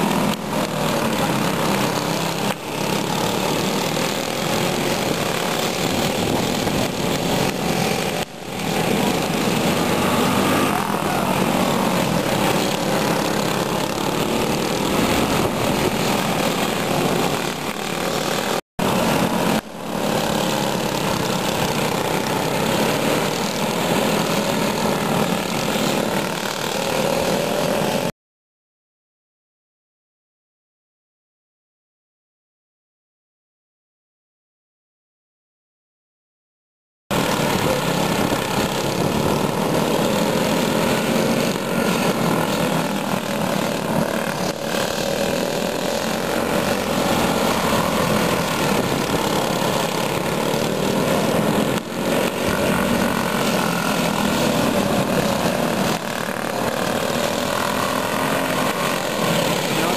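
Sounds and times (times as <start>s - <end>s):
racing kart engines running hard: 0.0s - 28.1s, 37.1s - 59.9s.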